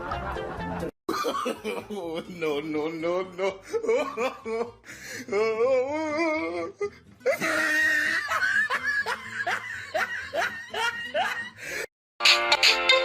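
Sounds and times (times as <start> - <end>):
person laughing: 0.8 - 11.8.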